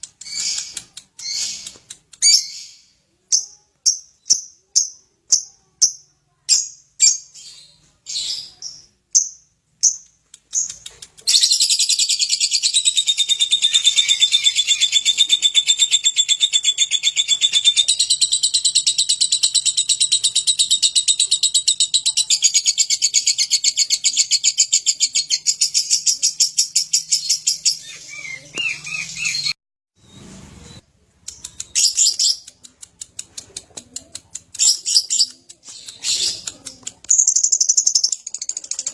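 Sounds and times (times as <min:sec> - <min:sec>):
rapid chattering bird trill: 0:00.0 - 0:07.5, 0:08.1 - 0:29.6, 0:31.3 - 0:38.9
bird chirps: 0:00.0 - 0:32.6, 0:34.6 - 0:38.9.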